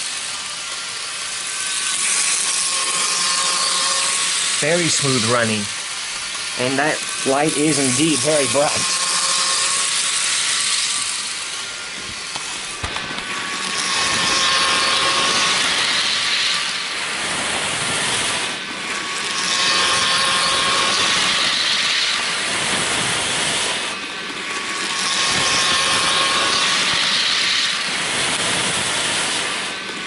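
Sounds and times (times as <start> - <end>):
model train motor whirring: 0.0 - 30.0
wheels rolling on rails: 0.0 - 30.0.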